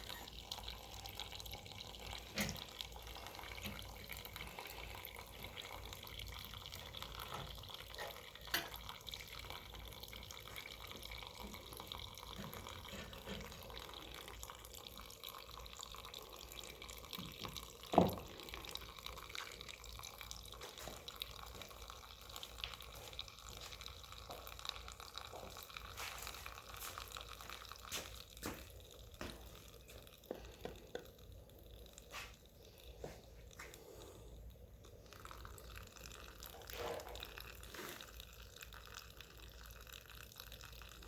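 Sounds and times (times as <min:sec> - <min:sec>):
liquid dripping into a cup: 0:00.0 - 0:41.0.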